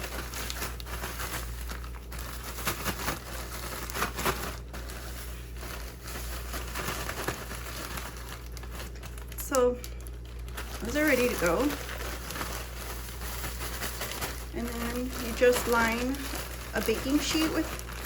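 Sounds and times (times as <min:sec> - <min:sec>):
bag crinkling with crackers tumbling: 0:00.0 - 0:18.0.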